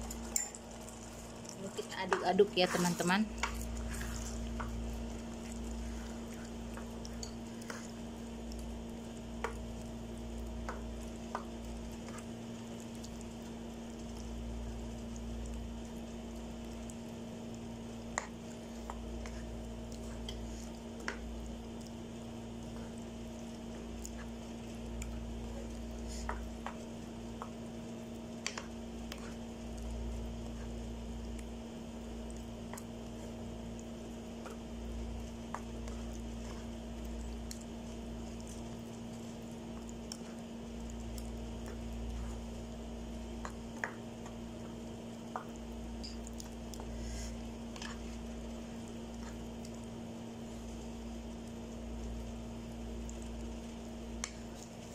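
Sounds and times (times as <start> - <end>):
steady low hum: 0.0 - 54.9
wet squelching stirring: 0.0 - 54.9.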